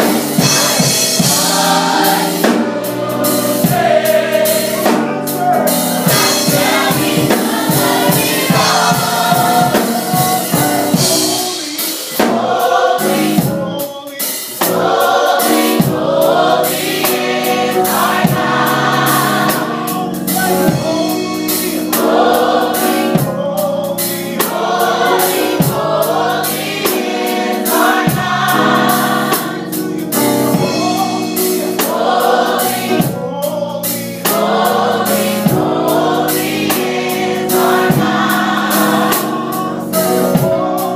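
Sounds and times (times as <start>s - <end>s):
drums: 0.0s - 40.9s
gospel choir singing: 0.0s - 40.9s.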